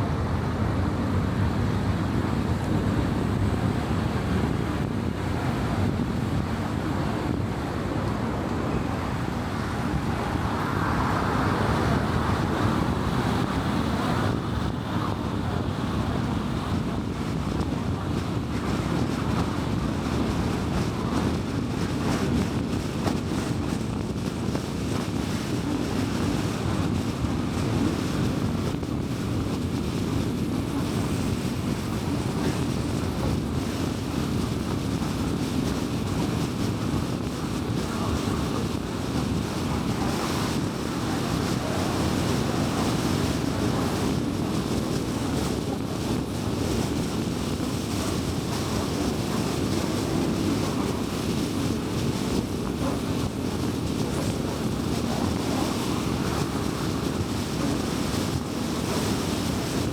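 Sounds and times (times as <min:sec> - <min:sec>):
wind rush: 0:00.0 - 0:59.9
tyre roar on road: 0:00.4 - 0:59.9.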